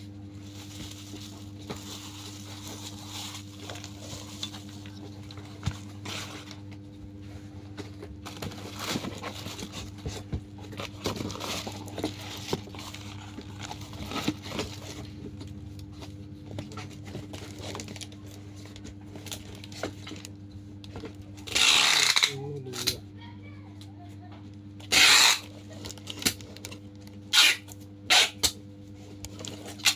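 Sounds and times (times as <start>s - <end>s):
packaging crinkling and rustling: 0.3s - 22.8s, 24.8s - 29.9s.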